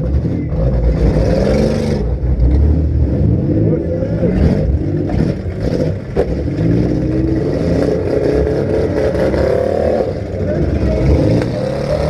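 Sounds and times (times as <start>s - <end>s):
car engines revving hard: 0.0s - 12.0s.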